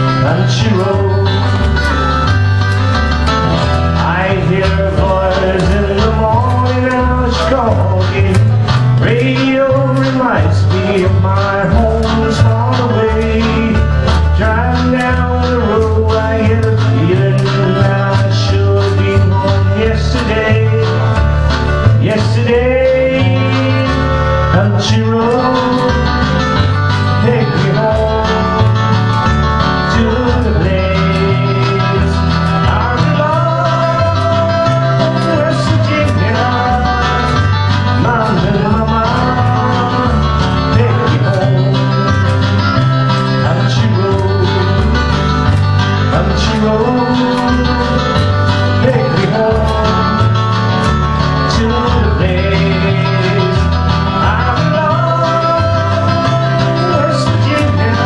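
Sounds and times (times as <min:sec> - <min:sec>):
acoustic guitar: 0:00.0 - 0:58.0
bass line: 0:00.0 - 0:58.0
man singing: 0:00.0 - 0:58.0.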